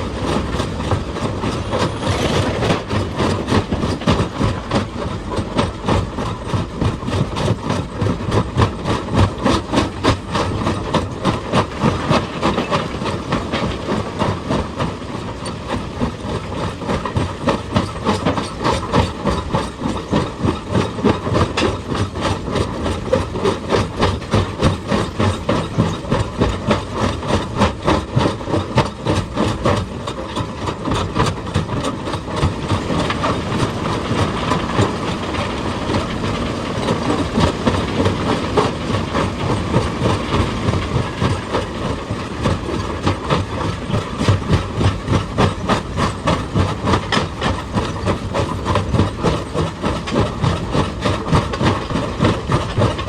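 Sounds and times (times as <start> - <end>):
excavator engine running: 0.0 - 53.0.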